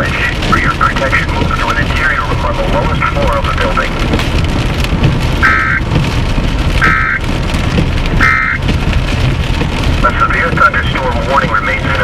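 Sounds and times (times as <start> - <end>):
rain: 0.0 - 12.0
wind rumbling on microphone: 0.0 - 12.0.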